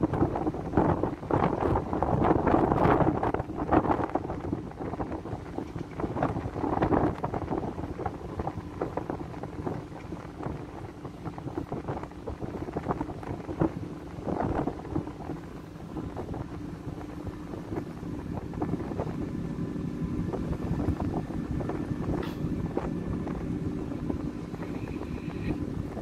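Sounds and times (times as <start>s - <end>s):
ship engine hum: 0.0s - 26.0s
wind buffeting microphone: 0.0s - 26.0s.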